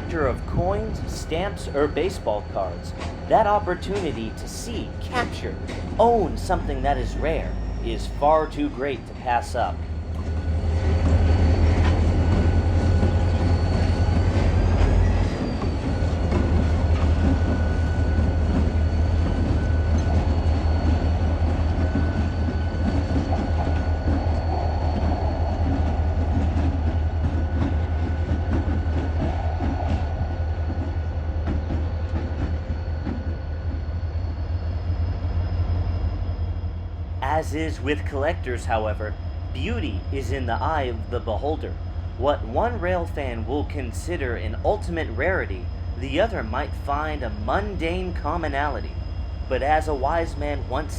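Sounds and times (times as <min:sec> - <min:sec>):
high-pitched ringing: 0:00.0 - 0:29.2, 0:30.1 - 0:50.9
freight train rumbling past: 0:00.0 - 0:50.9.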